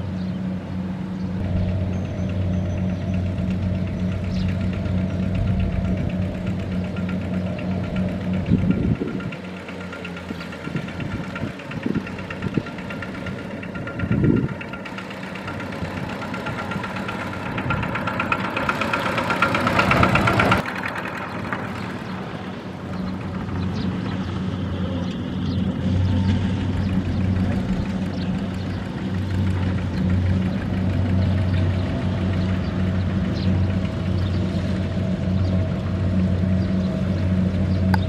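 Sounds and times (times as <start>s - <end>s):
diesel tractor engine chugging: 0.0s - 38.0s.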